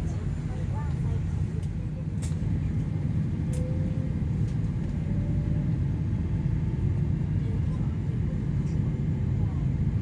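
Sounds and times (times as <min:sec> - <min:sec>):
train cabin low rumble: 0:00.0 - 0:10.0.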